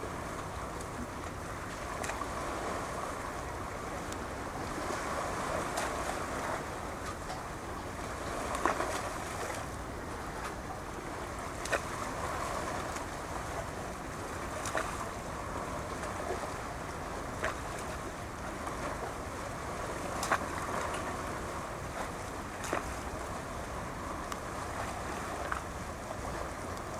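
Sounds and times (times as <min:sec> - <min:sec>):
small waves washing ashore: 0:00.0 - 0:26.9.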